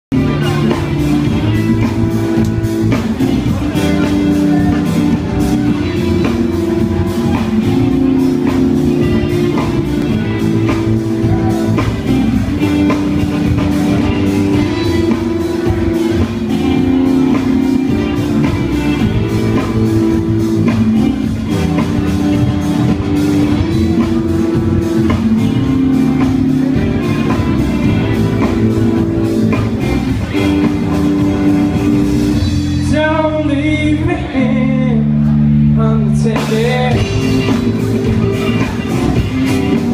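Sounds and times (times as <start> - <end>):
electric guitar: 0.1 - 39.9
live rock band playing: 0.1 - 39.9.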